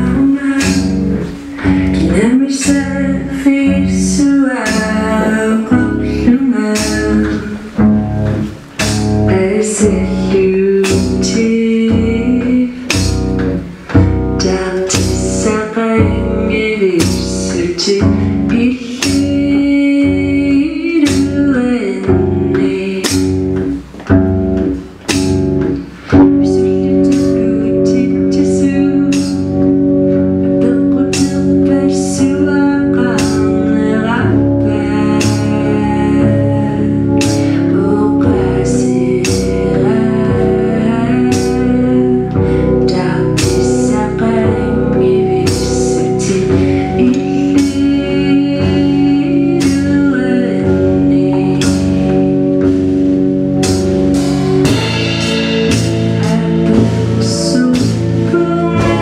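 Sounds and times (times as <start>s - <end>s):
steady low beat: 0.0s - 20.4s, 21.0s - 48.0s, 50.6s - 59.0s
lap steel guitar: 0.0s - 59.0s
woman singing into microphone: 0.0s - 59.0s.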